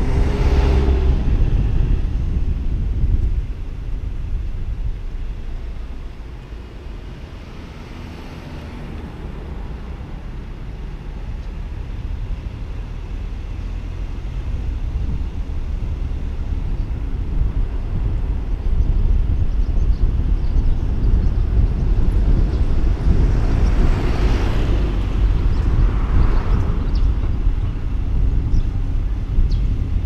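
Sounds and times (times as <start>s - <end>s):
car driving rumble: 0.0s - 30.0s.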